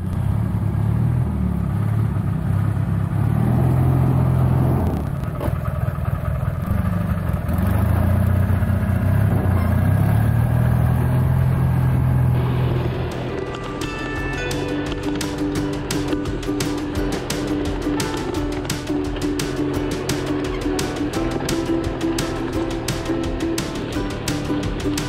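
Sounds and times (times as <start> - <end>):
atv engine running under load: 0.0 - 25.0.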